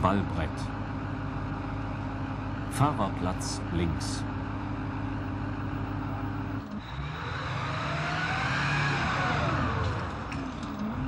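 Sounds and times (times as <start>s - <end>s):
diesel engine running: 0.0s - 11.0s
tracked vehicle passing by: 0.6s - 11.0s.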